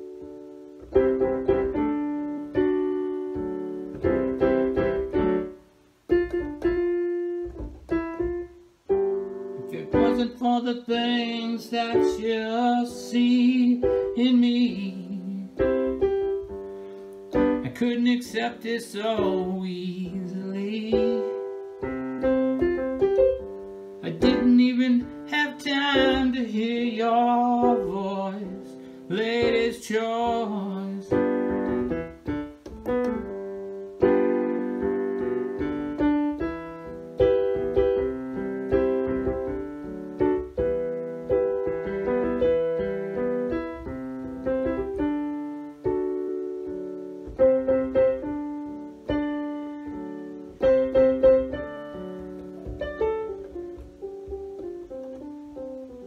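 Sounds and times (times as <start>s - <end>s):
piano chords: 0.0s - 56.0s.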